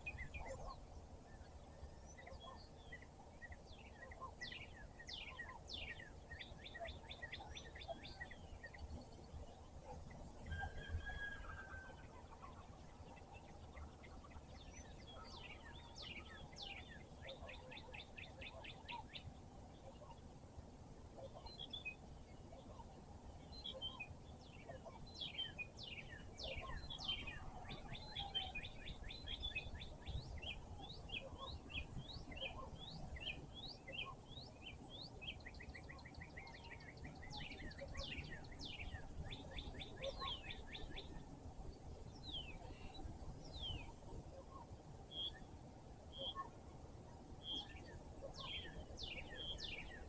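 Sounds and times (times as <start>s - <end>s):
songbirds singing and chirping: 0.0s - 50.0s.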